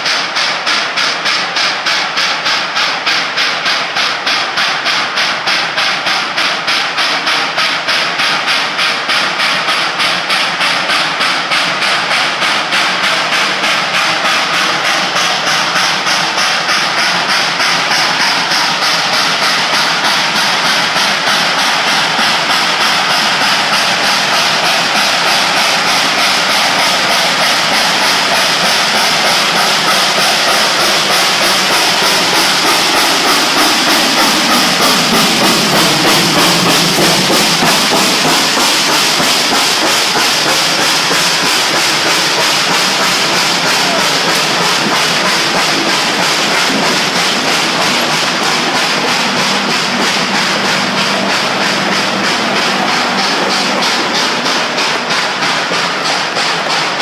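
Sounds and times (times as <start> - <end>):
coaches clattering on rails: 0.0 - 57.0
steam locomotive exhaust beat: 0.0 - 57.0.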